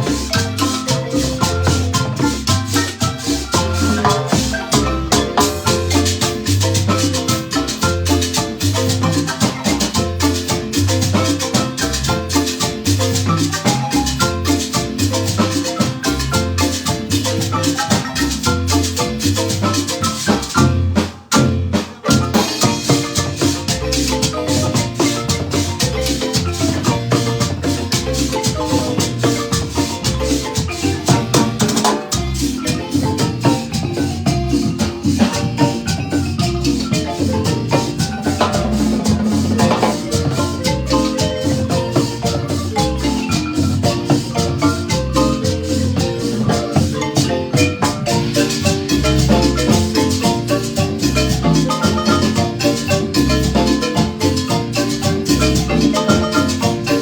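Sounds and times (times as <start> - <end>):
marimba ensemble dance music: 0.0 - 57.0.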